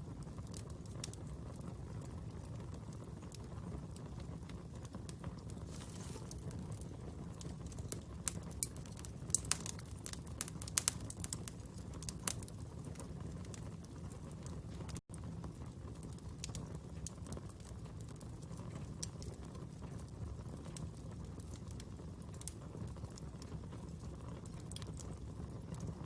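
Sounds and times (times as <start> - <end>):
fire crackling: 0.0 - 26.0
sharp pops from fire: 0.1 - 26.0.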